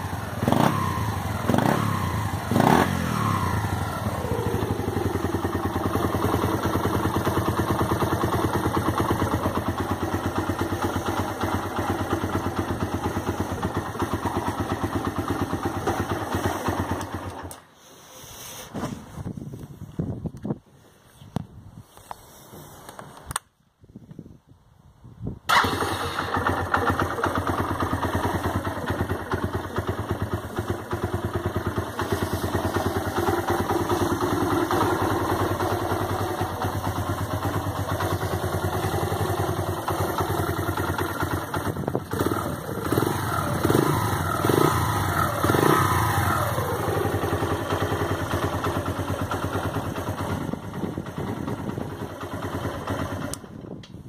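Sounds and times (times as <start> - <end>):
motorcycle engine running: 0.0 - 17.5, 25.5 - 54.0.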